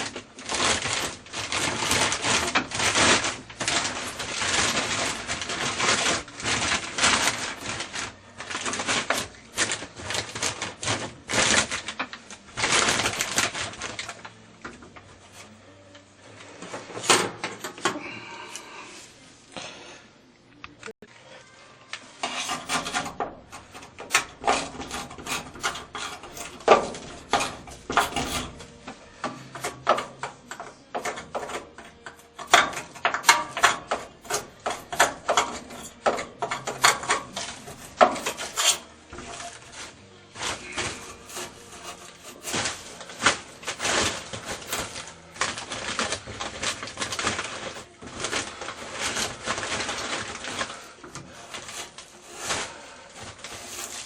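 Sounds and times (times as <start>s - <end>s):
rust scraped off metal: 0.0s - 11.8s, 22.2s - 54.0s.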